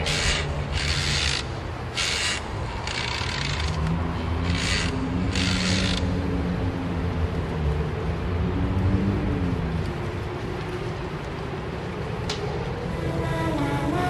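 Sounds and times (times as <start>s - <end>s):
low droning hum: 0.0s - 14.0s.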